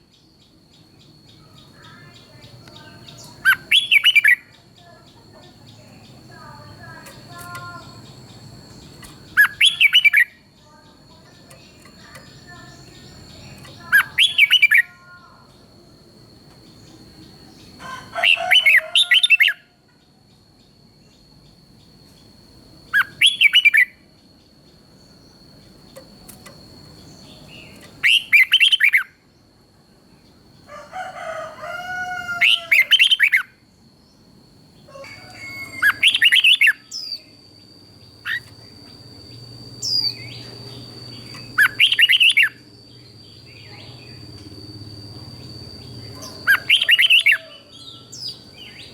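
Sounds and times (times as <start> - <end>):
bird singing song phrases: 0.0 - 30.9, 31.9 - 48.9
faint high whine: 0.0 - 48.9.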